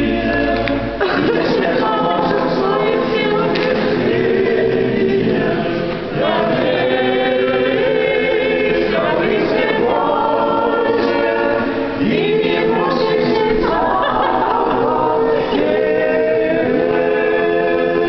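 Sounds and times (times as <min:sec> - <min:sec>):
choir singing unaccompanied chant: 0:00.0 - 0:18.0.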